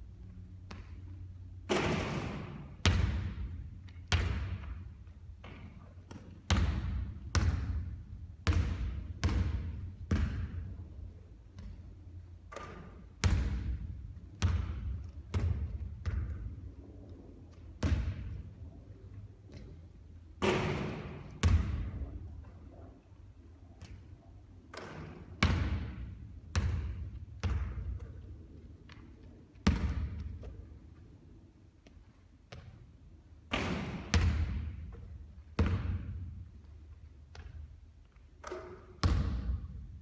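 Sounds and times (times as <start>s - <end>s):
basketball bouncing on gym floor: 0.5s - 16.7s, 17.5s - 18.6s, 20.4s - 22.5s, 23.8s - 30.8s, 31.8s - 37.8s, 38.4s - 40.0s.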